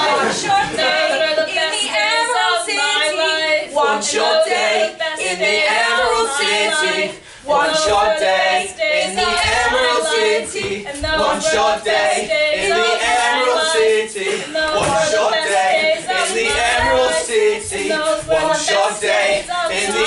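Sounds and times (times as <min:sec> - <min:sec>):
woman and man singing unaccompanied: 0:00.0 - 0:20.0.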